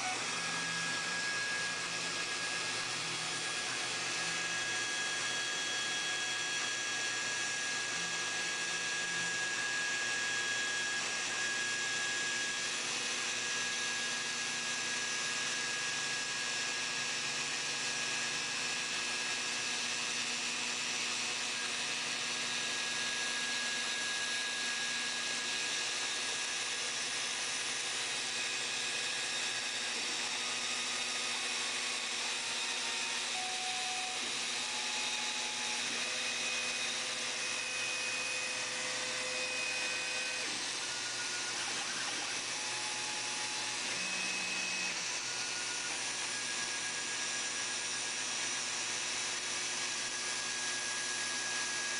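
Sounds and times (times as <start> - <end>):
drive motors whining tones: 0.0 - 14.7, 21.2 - 48.4
rotary cutting tool whining: 0.0 - 51.9.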